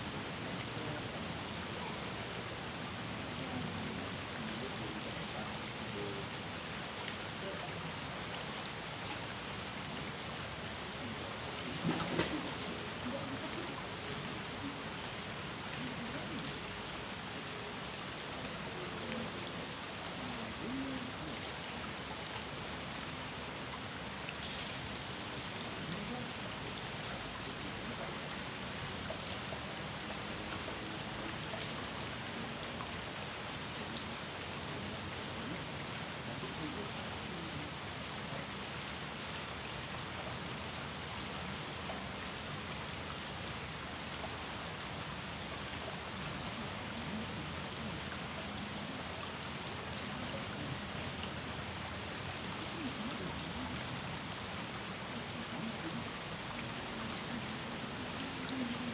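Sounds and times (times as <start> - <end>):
rain falling on a pond: 0.0 - 58.9.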